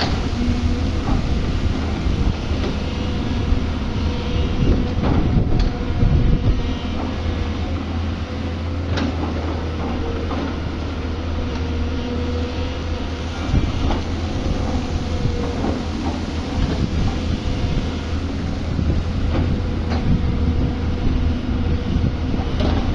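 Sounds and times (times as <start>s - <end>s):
excavator diesel engine running: 0.0s - 22.9s
steady whine: 0.0s - 22.9s.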